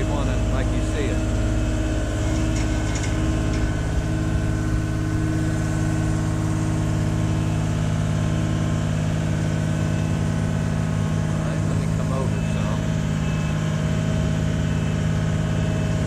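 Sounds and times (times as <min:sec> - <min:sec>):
engine running low drone: 0:00.0 - 0:16.0.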